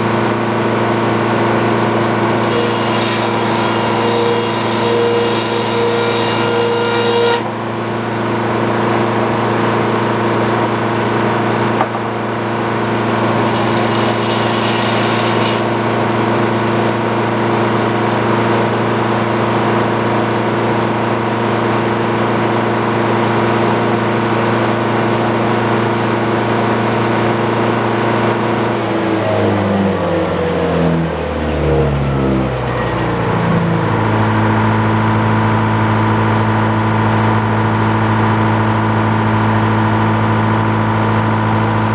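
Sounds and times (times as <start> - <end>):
engine running: 7.4 - 41.9.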